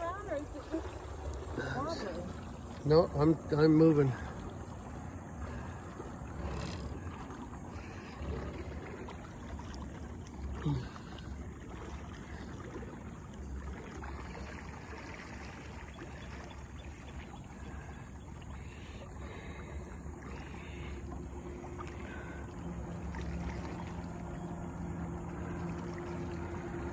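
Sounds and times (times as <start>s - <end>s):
low steady hum: 0.0s - 26.9s
water rushing along boat hull: 0.0s - 26.9s.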